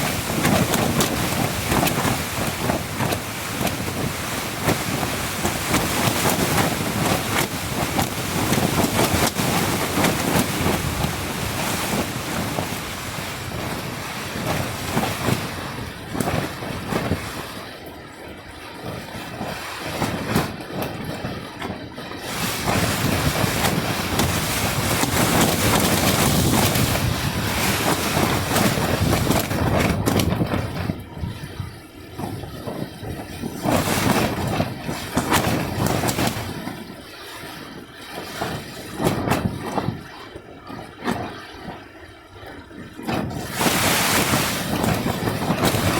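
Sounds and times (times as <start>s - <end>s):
gusty wind with rain: 0.0s - 45.9s
wind buffeting microphone: 0.0s - 45.9s.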